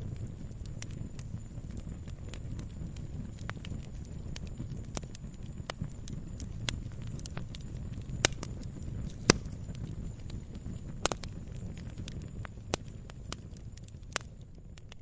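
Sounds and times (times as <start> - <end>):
firewood popping: 0.0 - 15.0
wood fire crackling: 0.0 - 15.0.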